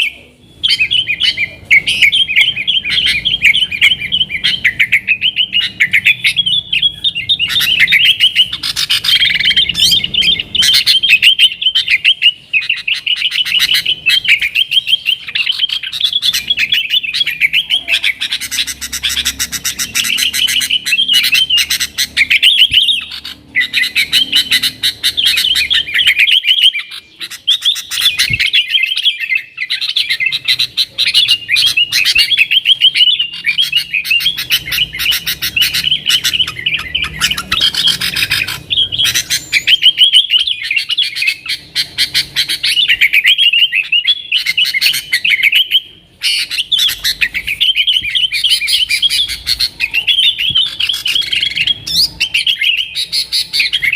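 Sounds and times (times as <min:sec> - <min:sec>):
bird singing chattering chirps: 0:00.0 - 0:53.9.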